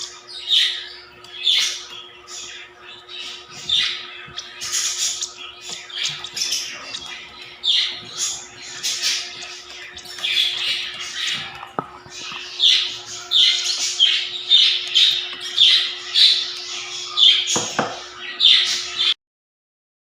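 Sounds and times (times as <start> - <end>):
faint steady hum: 0.0 - 19.2
lovebirds squawking: 0.0 - 19.2.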